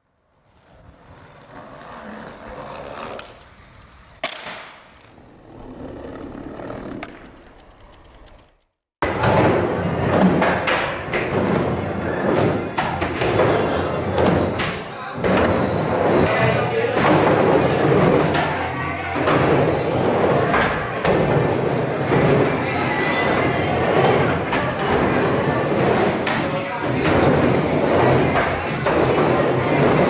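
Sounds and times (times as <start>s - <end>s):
skateboard wheels rolling and clacking: 0.4s - 30.0s.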